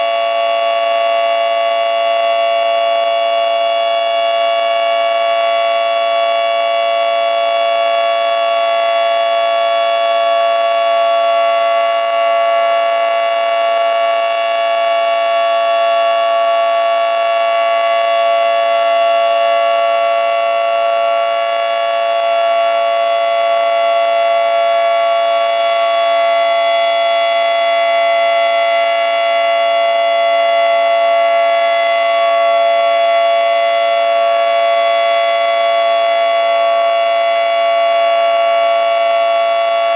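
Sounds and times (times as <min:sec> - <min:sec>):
dual-tone siren: 0:00.0 - 0:39.9.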